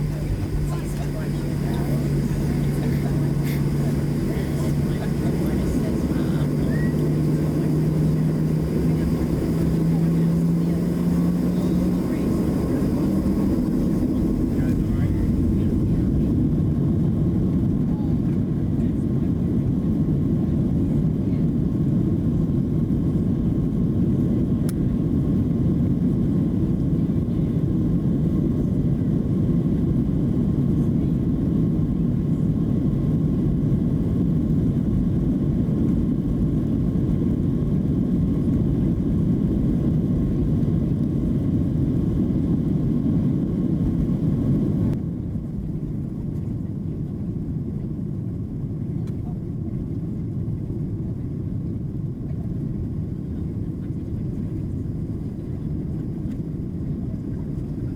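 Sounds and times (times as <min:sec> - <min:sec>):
jet engines droning in cabin: 0:00.0 - 0:57.9.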